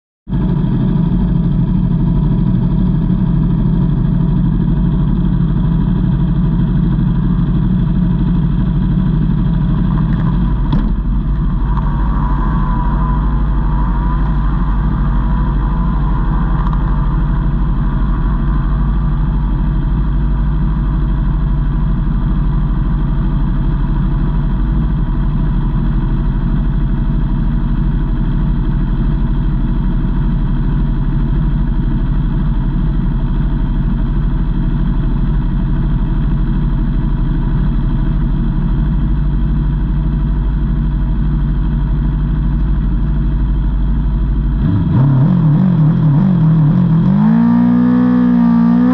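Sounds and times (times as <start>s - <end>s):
motorcycle engine running: 0.3s - 48.9s.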